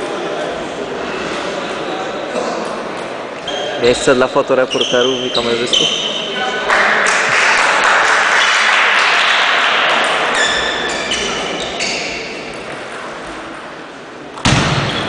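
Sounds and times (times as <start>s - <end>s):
murmur of large hall: 0.0s - 15.0s.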